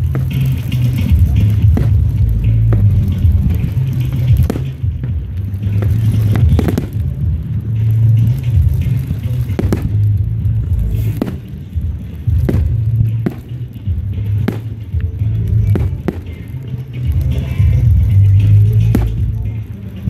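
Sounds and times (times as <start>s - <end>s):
continuous low rumble: 0.0s - 20.0s
firework shells bursting: 0.0s - 20.0s.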